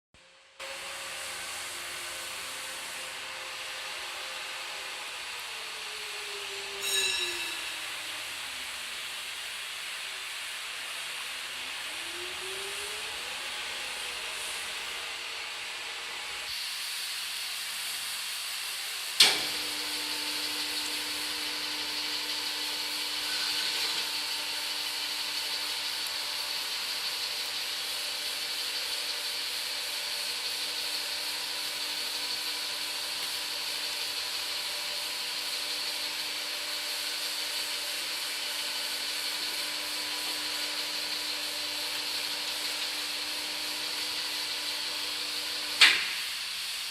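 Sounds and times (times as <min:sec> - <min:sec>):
motor hiss: 0:00.7 - 0:46.9.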